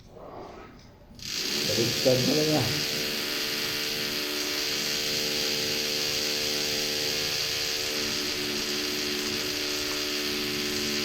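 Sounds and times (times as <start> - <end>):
motor hum: 1.2 - 11.0.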